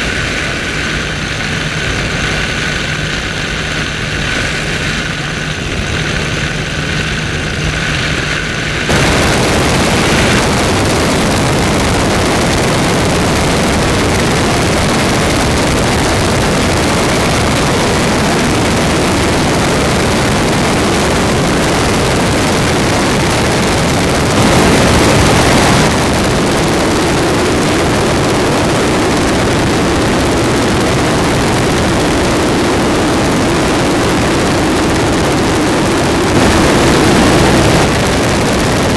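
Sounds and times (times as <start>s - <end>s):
engine and propeller drone: 0.0s - 38.9s
engine and rushing air roar: 0.0s - 38.9s.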